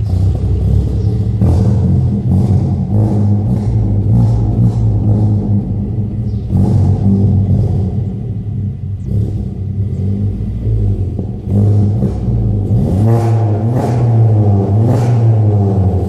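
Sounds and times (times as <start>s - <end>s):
car engine revving: 0.0s - 16.0s
exhaust cracks: 0.0s - 16.0s.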